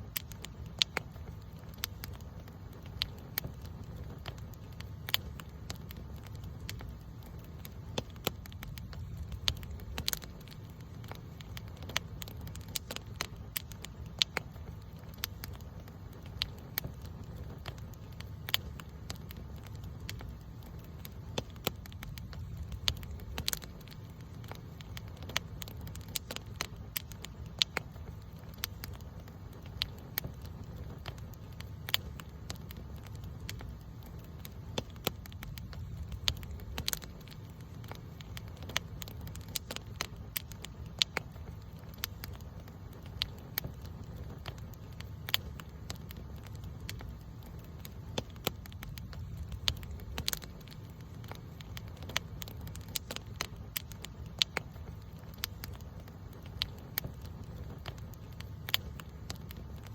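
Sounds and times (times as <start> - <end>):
campfire crackling: 0.0 - 59.9
low fire rumble: 0.0 - 59.9.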